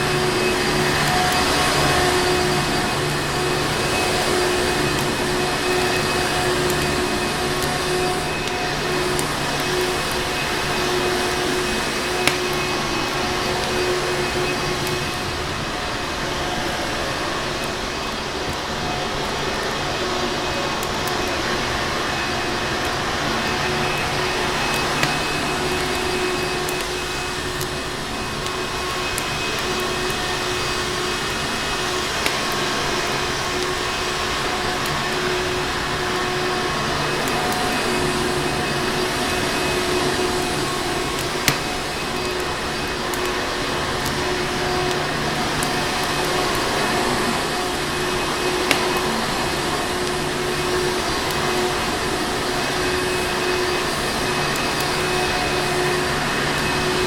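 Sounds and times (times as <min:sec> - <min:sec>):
vacuum cleaner running: 0:00.0 - 0:57.0
wood fire crackling: 0:00.0 - 0:57.0.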